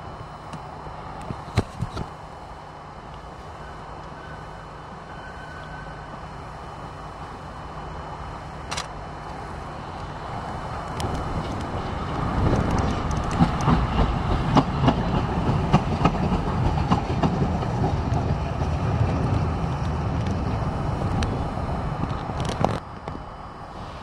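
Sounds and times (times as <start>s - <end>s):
tram wheels rumbling on track: 0.0s - 24.0s.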